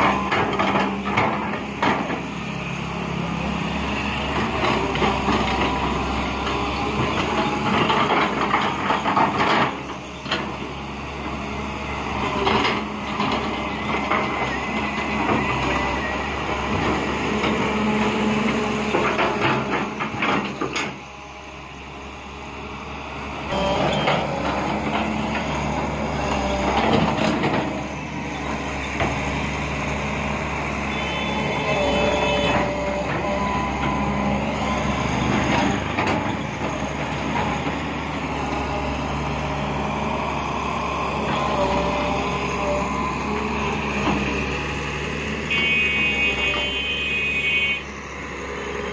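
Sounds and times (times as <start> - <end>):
excavator diesel engine: 0.0 - 48.9.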